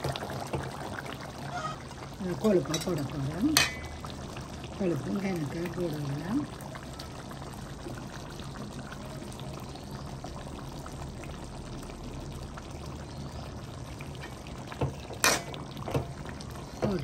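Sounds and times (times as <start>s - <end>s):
curry bubbling in a pot: 0.0s - 17.0s.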